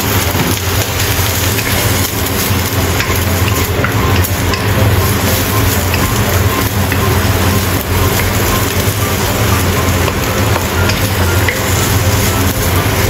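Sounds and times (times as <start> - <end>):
food sizzling in a wok: 0.0 - 13.0
low hum: 0.0 - 13.0.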